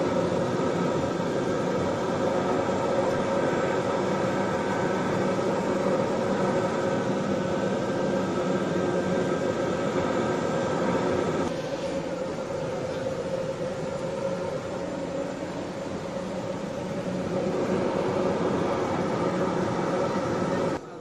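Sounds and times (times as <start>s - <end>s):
turboprop engine drone: 0.0s - 21.0s.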